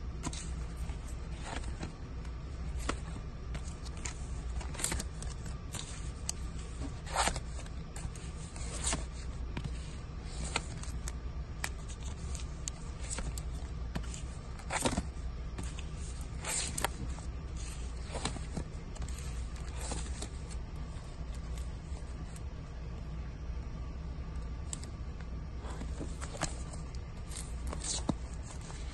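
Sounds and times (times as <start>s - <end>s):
steady low hum: 0.0s - 28.9s
record sleeves sliding and slapping: 0.1s - 22.8s, 24.3s - 28.9s.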